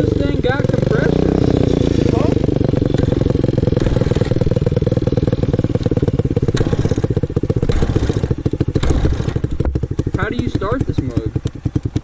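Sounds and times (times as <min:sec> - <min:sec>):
pit bike engine idling: 0:00.0 - 0:12.0.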